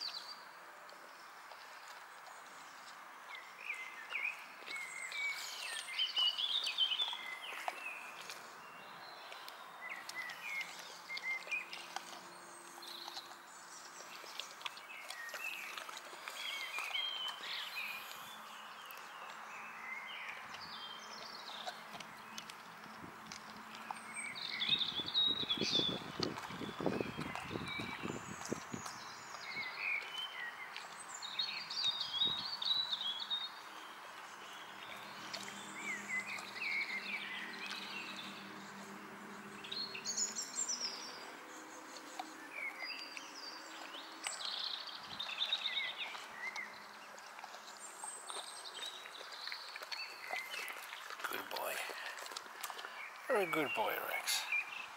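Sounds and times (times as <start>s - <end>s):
small birds chirping: 0.0s - 54.9s
dog chewing a cucumber: 6.6s - 32.0s, 34.5s - 53.8s.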